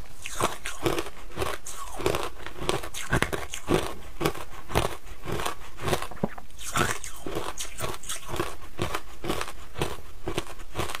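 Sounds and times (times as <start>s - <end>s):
crunching ice chewing: 0.3s - 11.0s.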